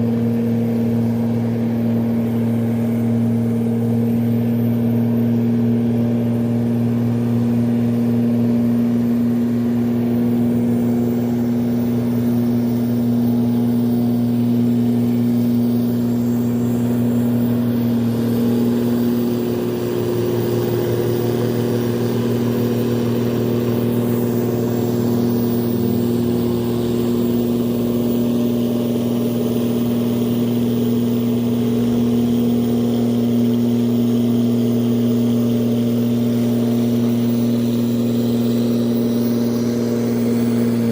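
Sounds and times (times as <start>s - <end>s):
tugboat engine drone: 0.0s - 40.9s.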